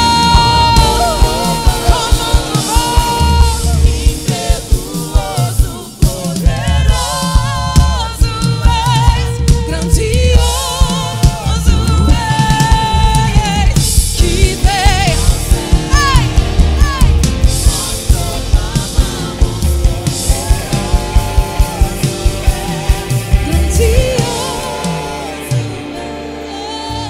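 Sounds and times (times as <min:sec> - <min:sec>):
steady drum beat: 0:00.0 - 0:26.5
backing vocalists singing: 0:00.0 - 0:27.0
woman singing lead: 0:00.0 - 0:27.0
worship band playing: 0:00.0 - 0:27.0.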